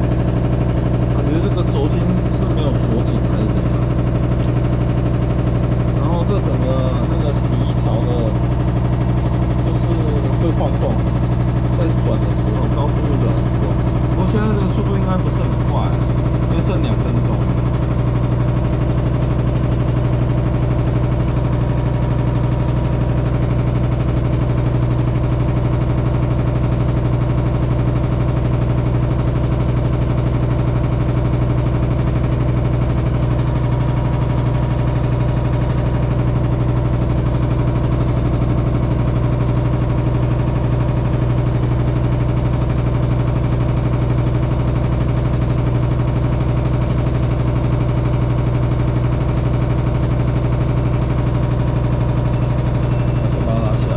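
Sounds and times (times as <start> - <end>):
rattling vibration: 0.0 - 53.9
washing machine spinning: 0.0 - 53.9.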